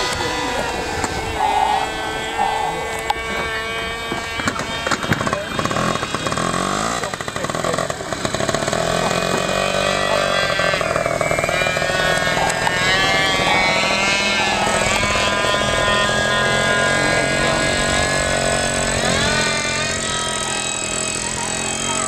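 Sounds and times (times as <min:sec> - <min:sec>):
model plane motor whining: 0:00.0 - 0:22.0.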